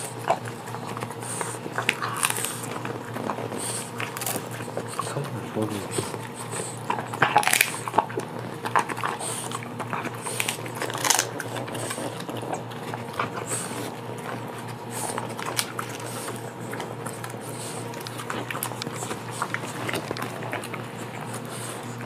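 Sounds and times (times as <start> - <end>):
dog chewing a treat: 0.0 - 22.0
steady low hum: 0.0 - 22.0.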